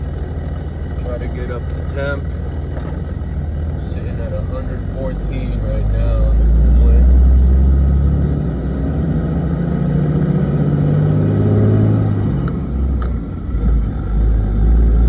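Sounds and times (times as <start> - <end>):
diesel engine accelerating: 0.0 - 15.0.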